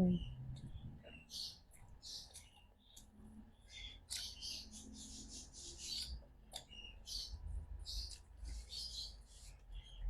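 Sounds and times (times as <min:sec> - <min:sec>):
person chewing food: 0:00.6 - 0:04.6, 0:05.8 - 0:10.0.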